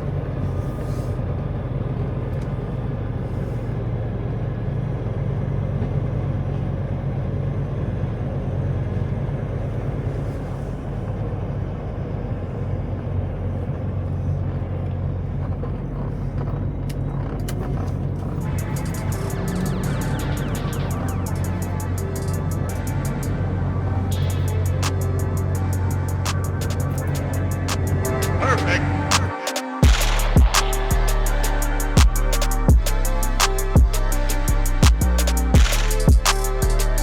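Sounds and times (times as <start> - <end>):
truck diesel engine droning: 0.0 - 37.0.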